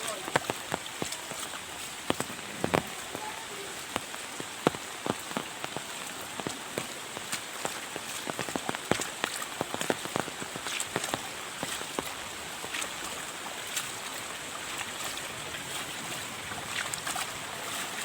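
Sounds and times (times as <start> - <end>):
heavy rain hiss: 0.0 - 18.0
large raindrops tapping: 0.0 - 18.0.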